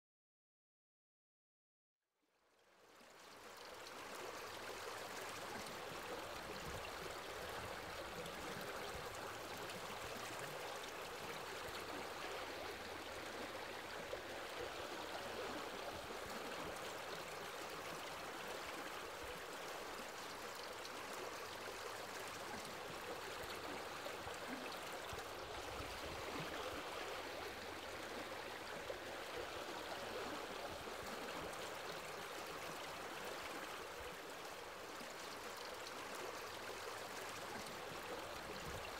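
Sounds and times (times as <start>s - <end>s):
stream water rushing: 3.1s - 38.9s.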